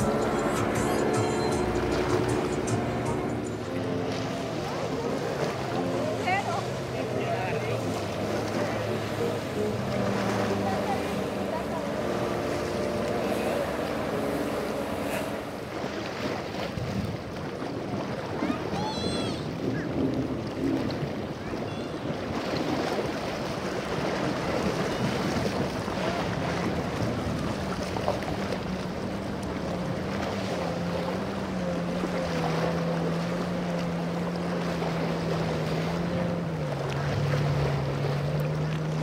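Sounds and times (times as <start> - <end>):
boat engine hum: 0.0 - 39.0
waves washing: 0.0 - 39.0
wind buffeting microphone: 4.5 - 36.4.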